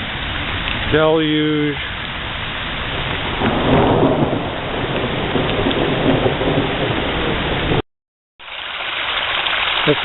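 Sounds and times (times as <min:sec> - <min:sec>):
heavy rain pouring down: 0:00.0 - 0:07.8, 0:08.4 - 0:10.0
storm runoff rushing: 0:00.0 - 0:07.8, 0:08.4 - 0:10.0.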